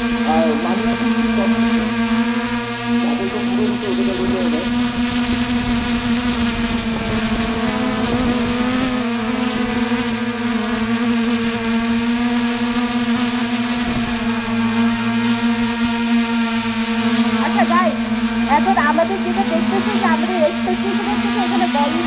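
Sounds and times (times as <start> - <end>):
drone propellers humming: 0.0 - 22.0.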